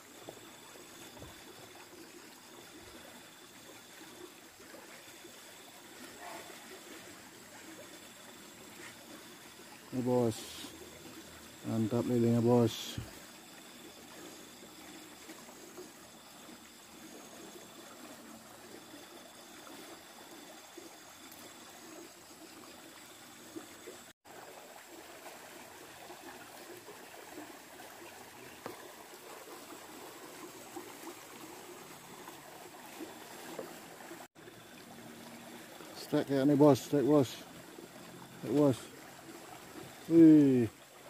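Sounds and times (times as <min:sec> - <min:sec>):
water flowing in a channel: 0:00.0 - 0:41.0.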